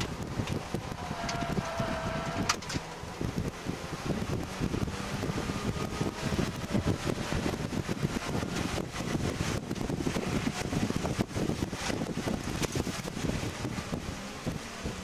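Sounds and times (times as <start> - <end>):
car engine accelerating hard: 0.0 - 15.0
wind noise inside car: 0.0 - 15.0.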